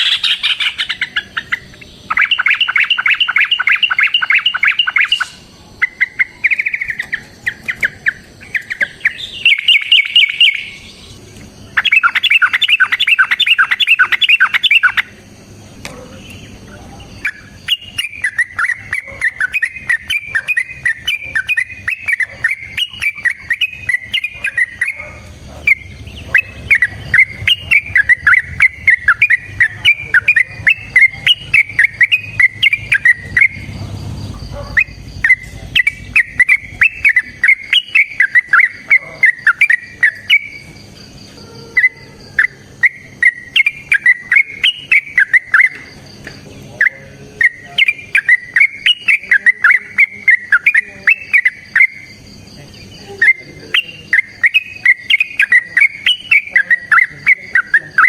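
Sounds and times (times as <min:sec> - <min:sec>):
bulbul singing chattering song: 0:00.0 - 0:58.0
faint steady high tones: 0:00.0 - 0:58.0.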